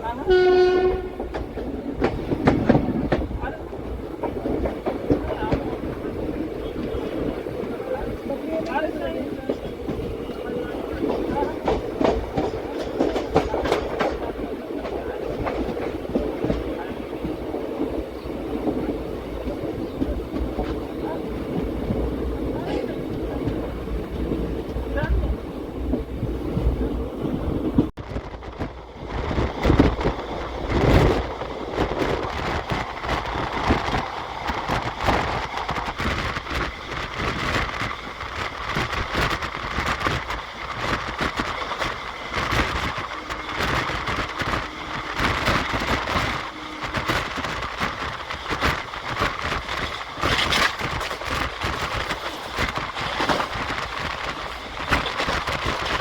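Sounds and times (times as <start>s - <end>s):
train running noise: 0.0s - 56.0s
wind buffeting microphone: 0.0s - 56.0s.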